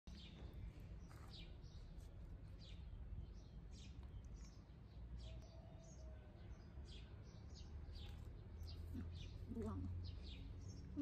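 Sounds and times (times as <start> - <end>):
low rumble of wind: 0.1 - 11.0.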